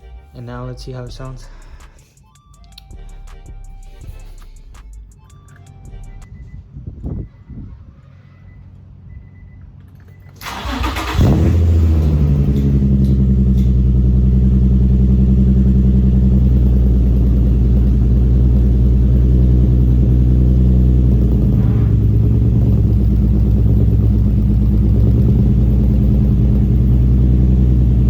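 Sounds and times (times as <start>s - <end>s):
car engine starting and idling: 0.0s - 6.5s, 7.3s - 28.0s.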